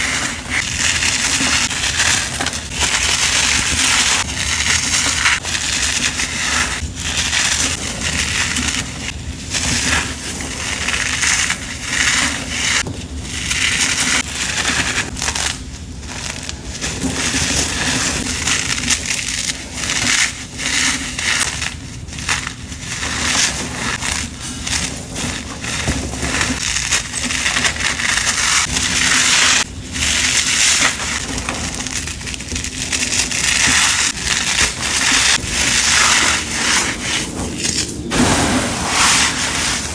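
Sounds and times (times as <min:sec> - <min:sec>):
powdery material crunching: 0:00.0 - 0:39.9.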